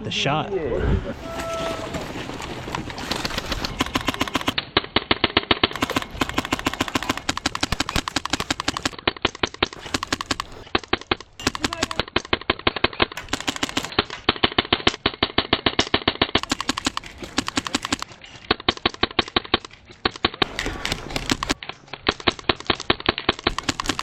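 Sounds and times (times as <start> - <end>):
airsoft guns full-auto bursts: 2.2 - 24.0.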